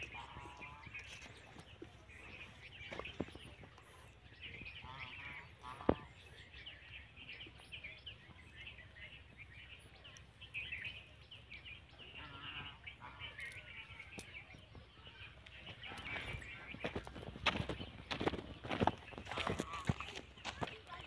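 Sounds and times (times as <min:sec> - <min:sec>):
faint voices talking: 0:00.0 - 0:21.0
small birds chirping: 0:00.0 - 0:21.0.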